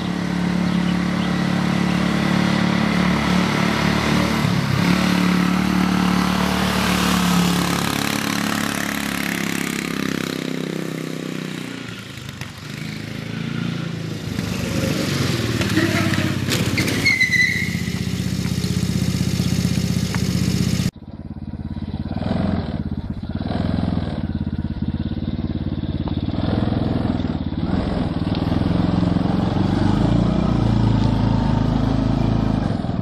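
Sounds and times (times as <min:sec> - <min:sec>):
go-kart driving past: 0:00.0 - 0:33.0
small engine under throttle: 0:00.0 - 0:33.0.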